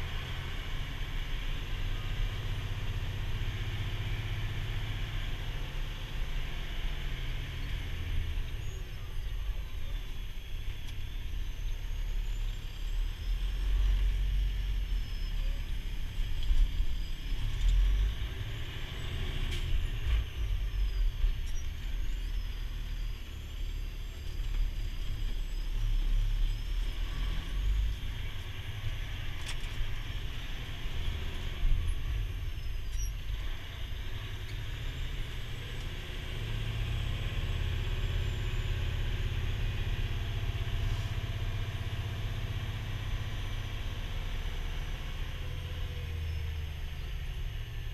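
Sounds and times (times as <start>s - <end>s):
truck diesel engine rumble: 0.0s - 47.9s.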